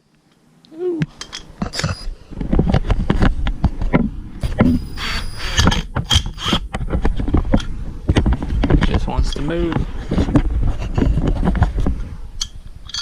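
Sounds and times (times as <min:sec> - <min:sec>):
hand tools clicking and scraping: 0:01.0 - 0:02.1, 0:02.7 - 0:13.0.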